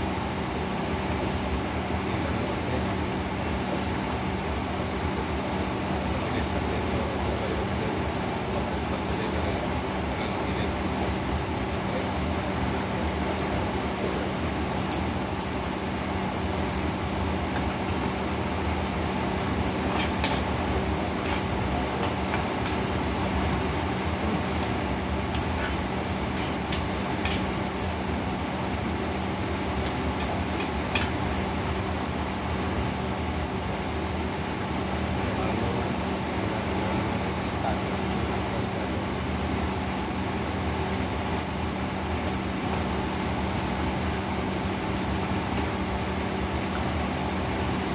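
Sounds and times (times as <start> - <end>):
exhaust hood fan running: 0.0 - 47.9.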